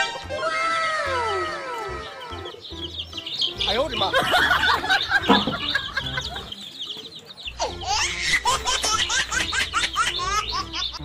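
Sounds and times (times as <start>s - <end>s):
chicks cheeping: 0.1s - 11.0s.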